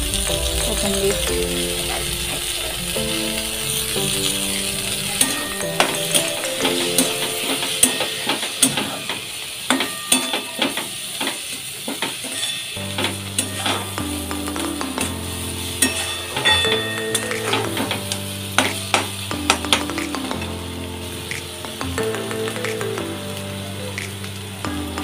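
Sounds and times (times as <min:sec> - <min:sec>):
background music low notes: 0:00.0 - 0:10.1, 0:12.8 - 0:25.0
food sizzling in pan: 0:00.0 - 0:25.0.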